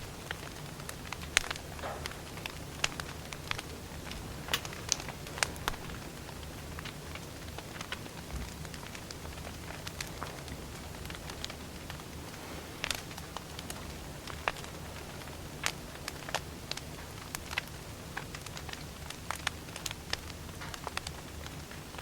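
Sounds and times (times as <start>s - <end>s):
low rumble of flame: 0.0s - 22.0s
wood fire crackling and popping: 0.0s - 22.0s.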